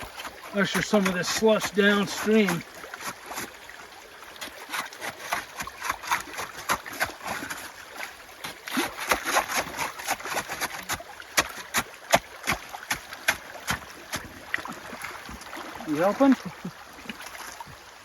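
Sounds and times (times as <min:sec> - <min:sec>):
shovel splashing and scraping ice: 0:00.0 - 0:15.2
flowing water rushing: 0:00.0 - 0:18.0.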